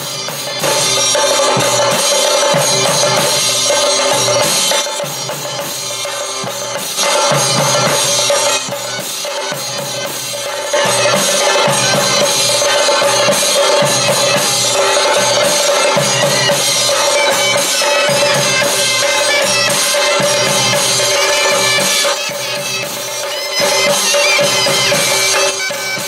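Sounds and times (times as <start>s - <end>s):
drums beaten with sticks: 0.0s - 26.0s.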